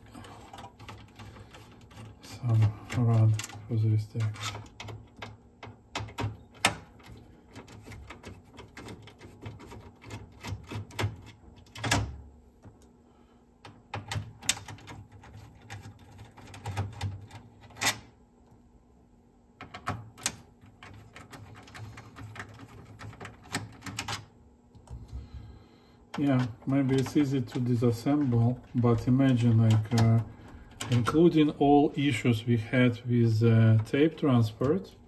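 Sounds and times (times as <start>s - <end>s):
clicks and knocks of parts handled: 0.0s - 13.0s, 13.6s - 18.6s, 19.6s - 25.2s, 26.1s - 31.4s.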